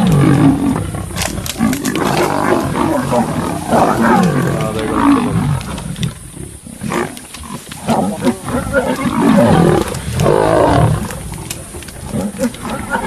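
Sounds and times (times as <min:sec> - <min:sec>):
lions growling: 0:00.0 - 0:13.0.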